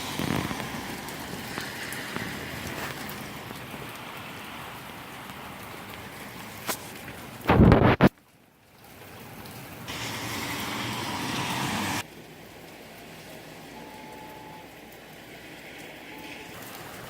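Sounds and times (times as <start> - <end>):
rain in gusty wind: 0.0 - 17.0.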